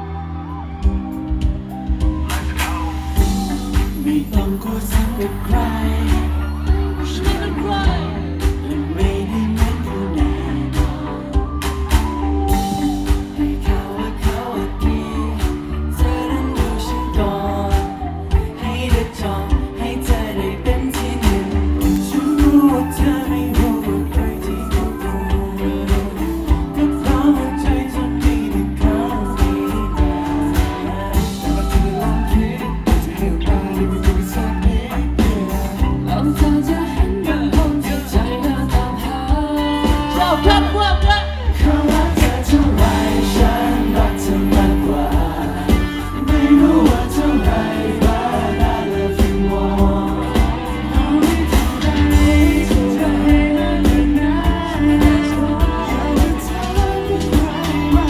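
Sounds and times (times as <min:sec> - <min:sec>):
live rock band playing: 0:00.0 - 0:58.0
men singing into microphones: 0:03.2 - 0:58.0.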